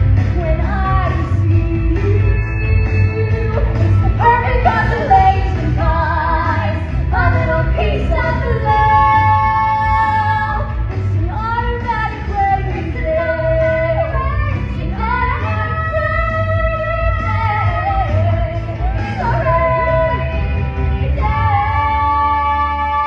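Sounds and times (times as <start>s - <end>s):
women singing: 0.0s - 23.0s.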